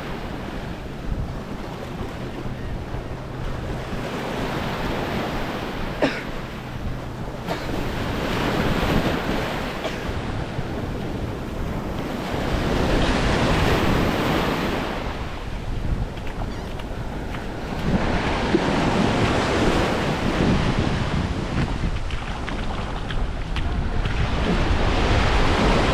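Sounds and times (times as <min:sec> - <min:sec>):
small waves washing on sand: 0:00.0 - 0:25.9
wind rumbling on microphone: 0:00.0 - 0:25.9.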